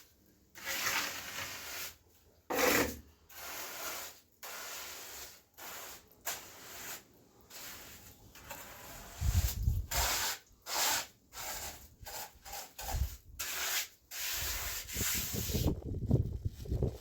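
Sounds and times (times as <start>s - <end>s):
hand tool scraping: 0.6s - 15.7s.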